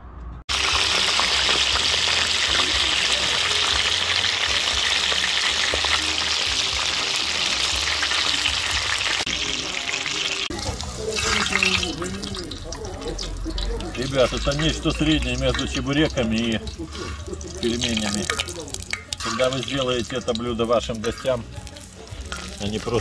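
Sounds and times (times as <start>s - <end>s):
dumplings sizzling in hot oil: 0.5s - 23.0s.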